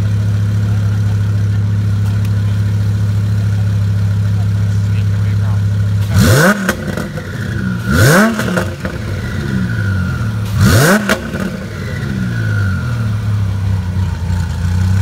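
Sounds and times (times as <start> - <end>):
sports car engine idling and revving: 0.0 - 15.0.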